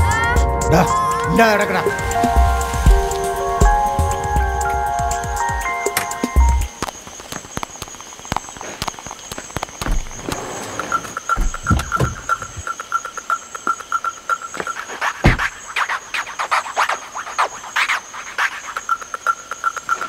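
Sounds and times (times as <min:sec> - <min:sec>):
frogs and insects calling: 0:00.0 - 0:20.0.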